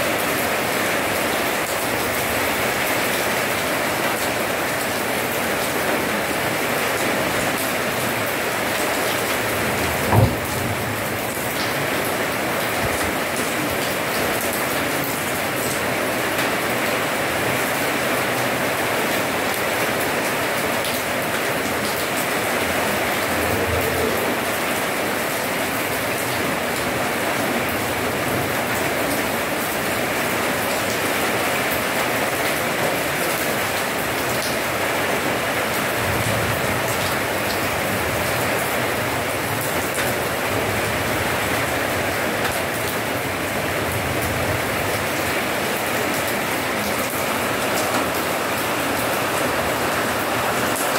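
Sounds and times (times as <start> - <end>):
rain falling on wet paving: 0.0 - 50.9.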